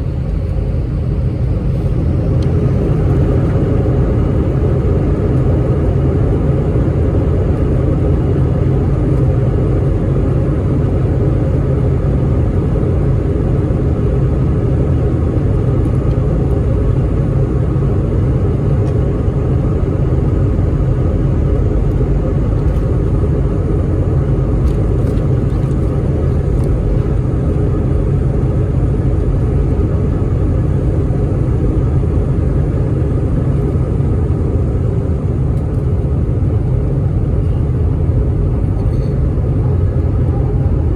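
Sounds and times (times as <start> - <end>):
jet engine cabin roar: 0.0 - 40.9.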